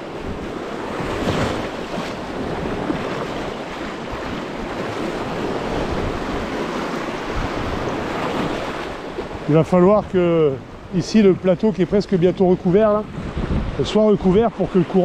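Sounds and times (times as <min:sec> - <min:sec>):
waves washing over rocks: 0:00.0 - 0:15.0
wind on microphone: 0:00.0 - 0:15.0.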